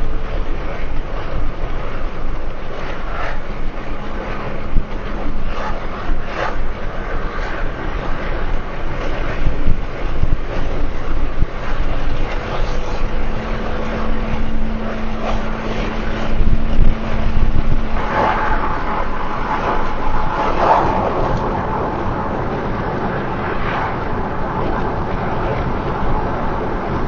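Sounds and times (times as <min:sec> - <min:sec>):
faint steady hum: 0:00.0 - 0:27.0
road and engine noise in car: 0:00.0 - 0:27.0.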